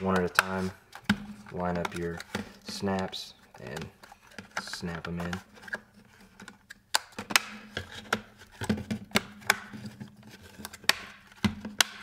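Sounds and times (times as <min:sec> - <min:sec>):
plastic tabs clicking into place: 0:00.0 - 0:05.8, 0:06.4 - 0:12.0.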